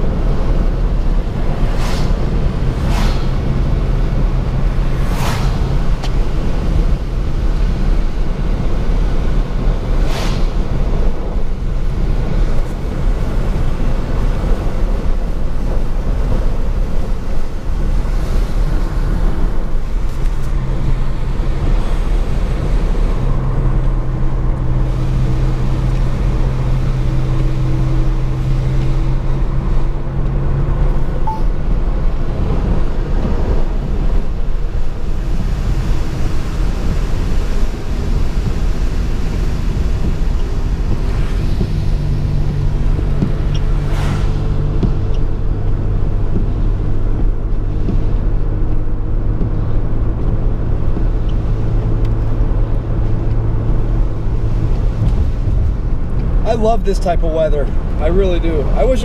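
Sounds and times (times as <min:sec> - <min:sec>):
car engine hum: 0:00.0 - 0:59.0
tyres rumbling on wet road: 0:00.0 - 0:59.0.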